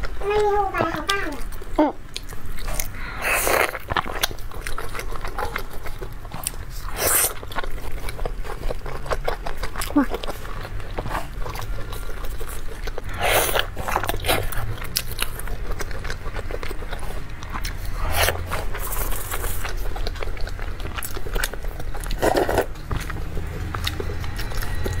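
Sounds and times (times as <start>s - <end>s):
biting soft food: 0.0s - 25.0s
chewing and wet mouth sounds: 0.0s - 25.0s.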